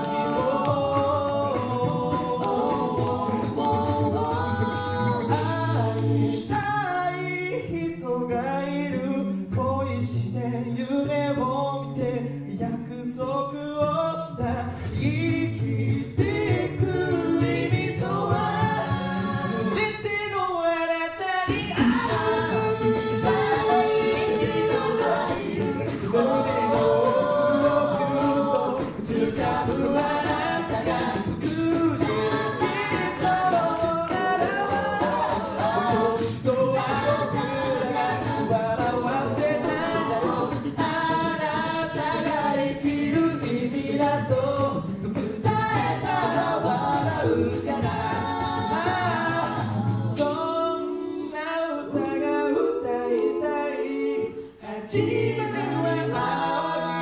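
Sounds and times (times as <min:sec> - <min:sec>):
a cappella group singing: 0:00.0 - 0:57.0
vocal percussion beat: 0:00.0 - 0:57.0.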